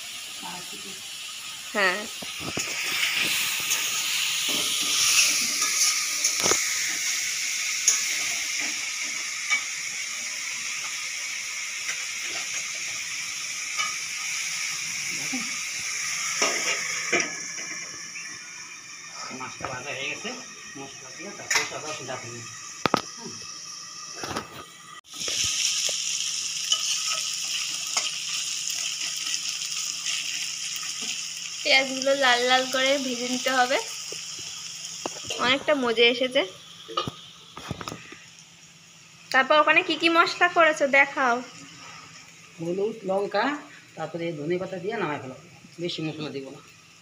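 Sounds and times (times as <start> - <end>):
onions sizzling in hot oil: 0.0 - 47.0.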